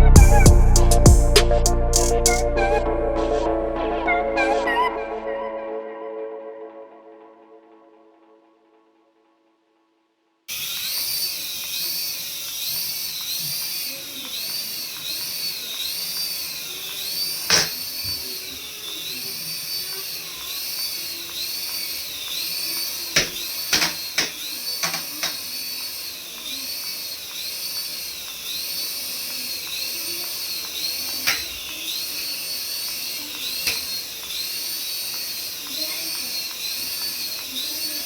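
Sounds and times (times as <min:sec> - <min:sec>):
toy electronic warbling tone: 0:00.0 - 0:06.6, 0:10.5 - 0:38.0.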